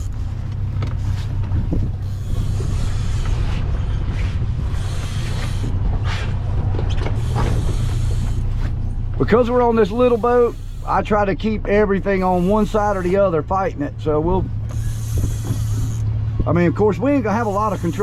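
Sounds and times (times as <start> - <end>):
outboard motor running: 0.0 - 18.0
water noise: 0.0 - 18.0
wind: 0.0 - 18.0.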